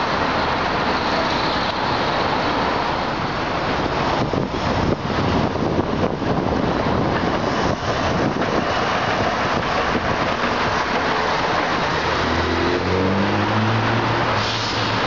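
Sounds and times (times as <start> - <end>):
street traffic with passing tram: 0.0 - 15.0.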